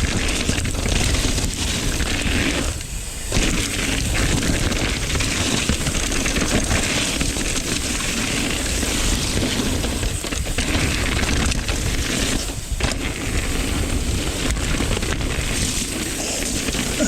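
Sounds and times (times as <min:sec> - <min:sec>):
bike tyres rattling on dirt: 0:00.0 - 0:17.0
wind buffeting microphone: 0:00.0 - 0:17.0.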